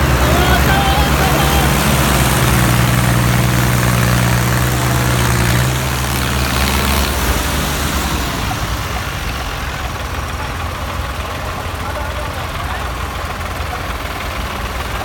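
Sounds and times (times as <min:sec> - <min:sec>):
tractor diesel engines running: 0:00.0 - 0:15.0.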